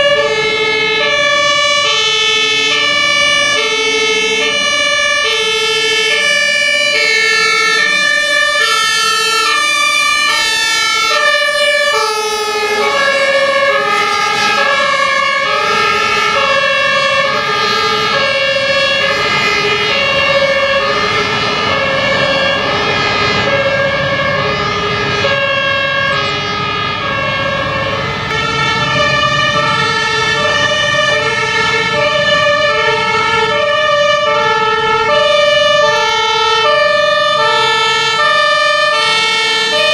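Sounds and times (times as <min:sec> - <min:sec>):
two-tone fire engine siren: 0:00.0 - 0:39.9
truck engine running: 0:02.8 - 0:39.9.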